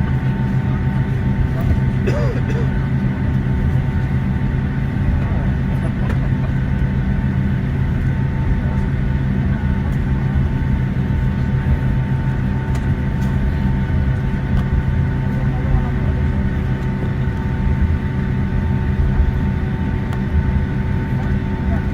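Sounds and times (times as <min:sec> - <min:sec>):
jet engine drone in cabin: 0:00.0 - 0:21.9.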